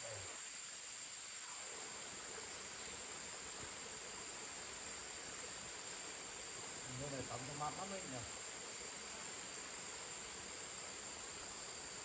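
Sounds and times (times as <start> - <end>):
insects chirping chorus: 0.0 - 12.0.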